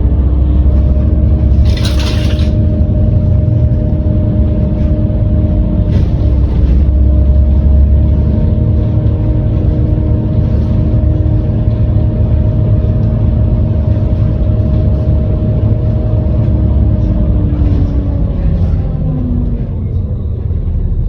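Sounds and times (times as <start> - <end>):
bus engine rumbling: 0.0 - 21.0
steady whine: 0.0 - 21.0.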